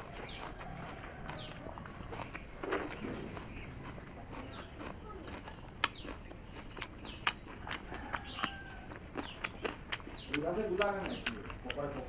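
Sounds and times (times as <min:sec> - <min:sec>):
birds chirping faintly: 0:00.0 - 0:12.0
wet chewing and lip smacks: 0:00.0 - 0:12.0
sharp mouth clicks: 0:02.1 - 0:12.0.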